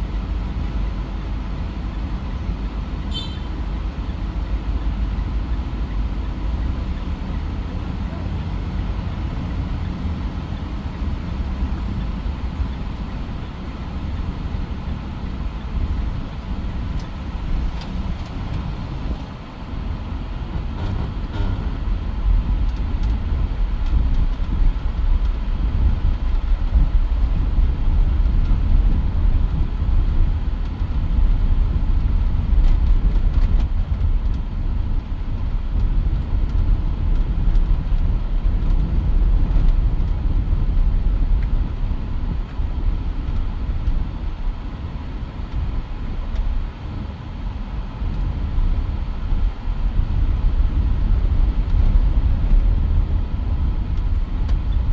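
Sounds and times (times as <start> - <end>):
car engine rumble: 0.0 - 54.9
road noise: 0.0 - 54.9.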